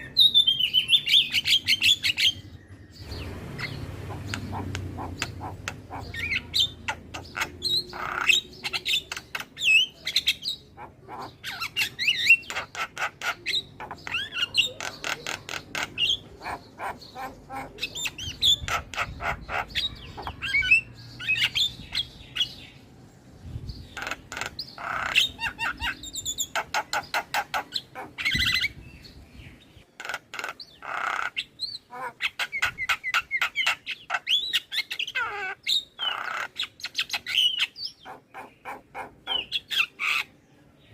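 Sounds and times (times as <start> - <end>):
bird singing with clicking chatter: 0.0 - 22.6, 23.8 - 28.7, 29.8 - 40.4.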